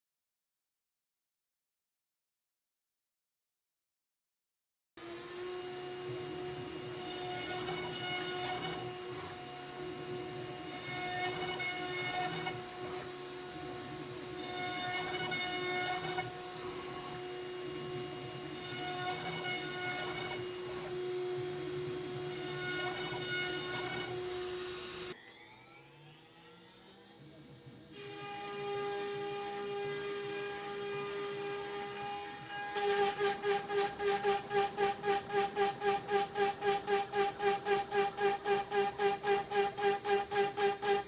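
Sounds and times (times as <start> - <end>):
router spindle whining cutting wood: 5.0 - 41.0.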